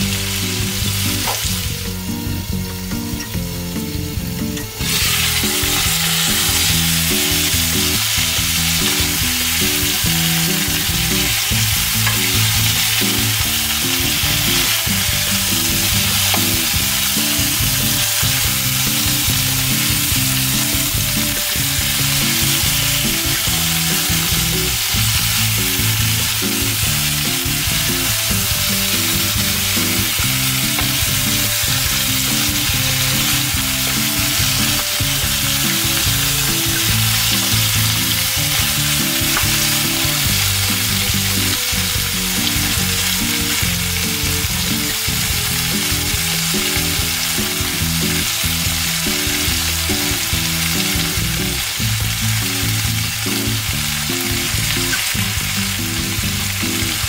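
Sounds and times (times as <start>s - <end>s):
prawns sizzling in a pan: 0.0s - 57.0s.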